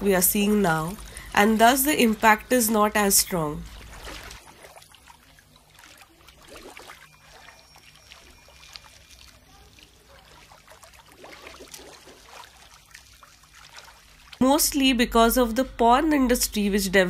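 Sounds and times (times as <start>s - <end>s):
water bubbling and trickling: 0.0s - 14.4s
low steady hum: 0.0s - 17.0s.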